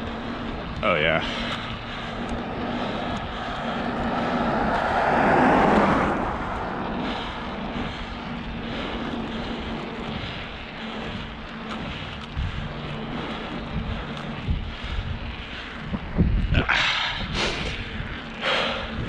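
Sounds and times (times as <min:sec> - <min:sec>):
bicycle tyres rolling on pavement: 0:00.0 - 0:19.0
wind rushing over microphone: 0:00.0 - 0:19.0.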